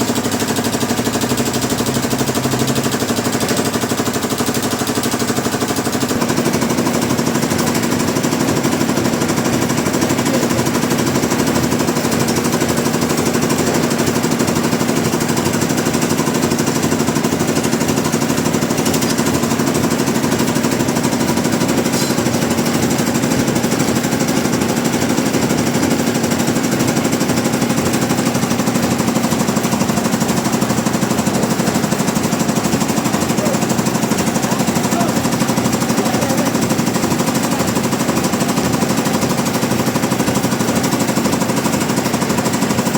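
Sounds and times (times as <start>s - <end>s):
sawmill machinery rattling: 0.0s - 42.9s.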